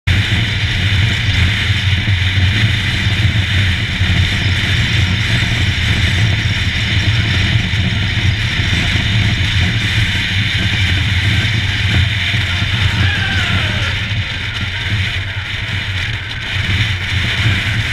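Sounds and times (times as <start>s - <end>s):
motorcycle engine running: 0.0s - 17.9s
wind and road noise: 0.1s - 17.9s.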